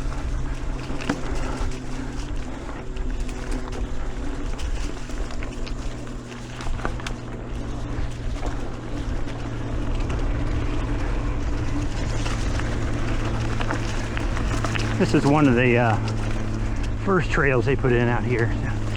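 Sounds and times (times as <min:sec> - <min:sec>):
bike clicks and rattles: 0:00.0 - 0:18.9
bike tyres rolling on dirt: 0:00.0 - 0:18.9
constant low hum: 0:00.0 - 0:18.9
wind: 0:00.0 - 0:18.9.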